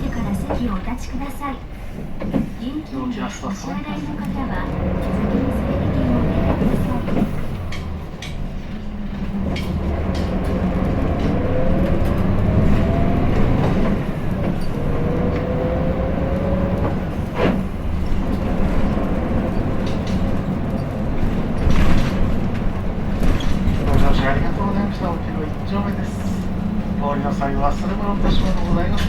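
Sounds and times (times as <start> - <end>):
bus diesel engine rumble: 0.0 - 29.0
road noise: 0.0 - 29.0.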